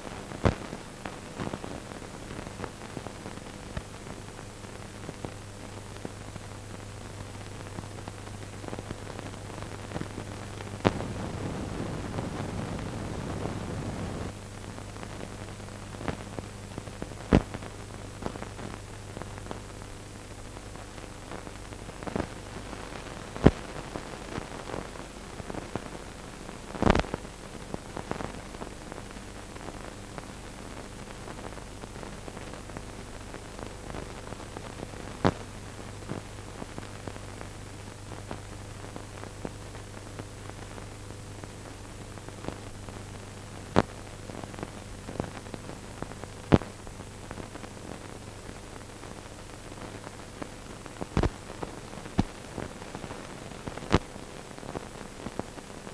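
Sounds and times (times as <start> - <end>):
steady hiss and electrical hum: 0.0 - 55.9
sharp pops and crackles: 0.2 - 6.2, 7.5 - 20.0, 20.6 - 55.9.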